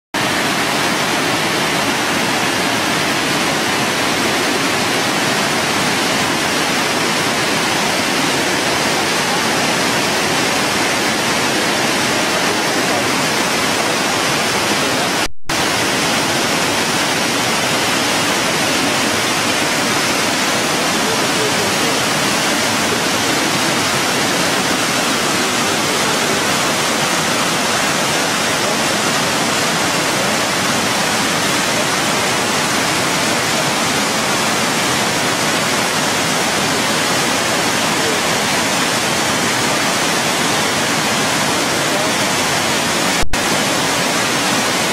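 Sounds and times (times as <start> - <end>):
waterfall pouring over rocks: 0.2 - 44.9.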